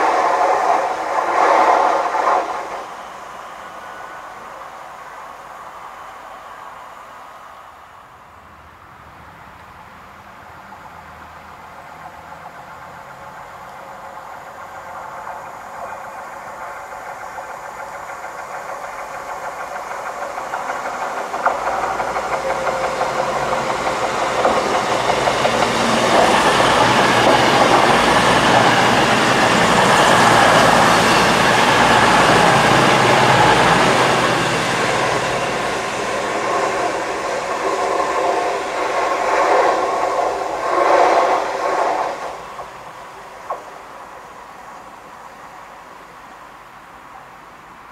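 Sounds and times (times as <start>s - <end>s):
diesel train passing: 0.0s - 47.9s.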